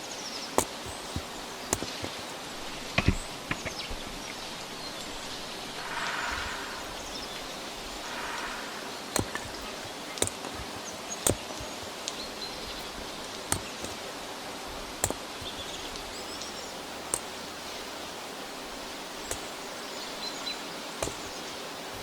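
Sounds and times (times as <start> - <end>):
outdoor ambient hiss: 0.0 - 22.0.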